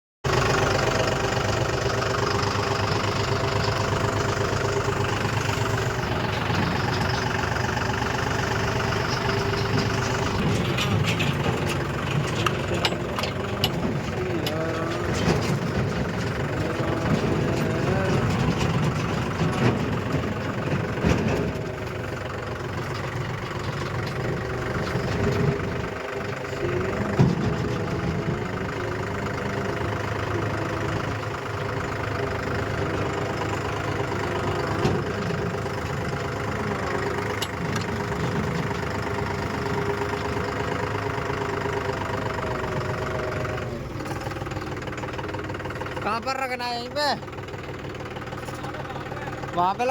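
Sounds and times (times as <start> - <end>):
heavy vehicle engine idling: 0.2 - 49.9.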